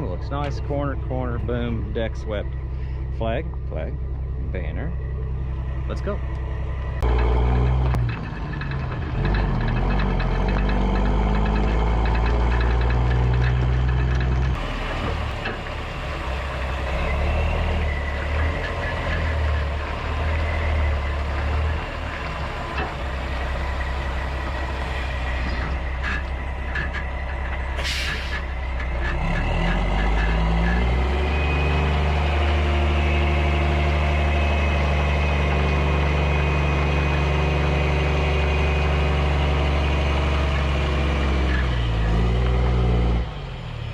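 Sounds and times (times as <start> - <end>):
truck diesel engine under load: 0.0 - 43.9.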